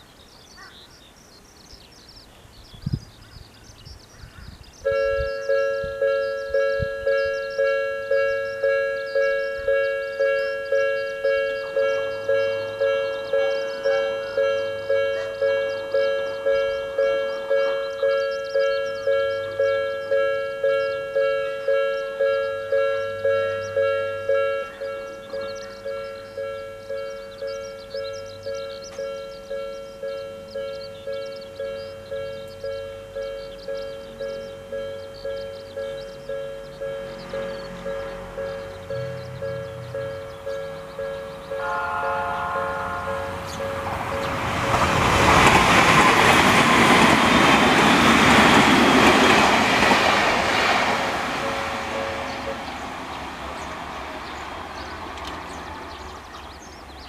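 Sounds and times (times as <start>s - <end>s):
level crossing warning bell: 4.8s - 53.0s.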